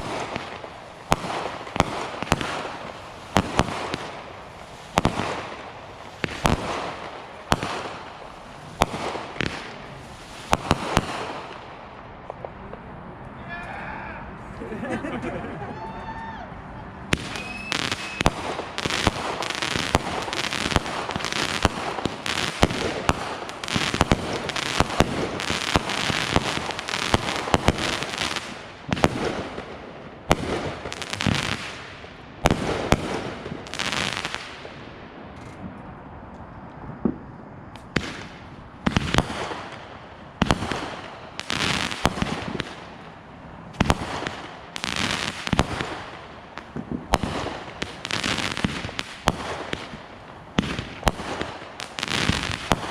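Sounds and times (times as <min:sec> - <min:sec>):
fireworks bangs and crackling: 0:00.0 - 0:13.0, 0:17.1 - 0:36.0, 0:36.8 - 0:52.9.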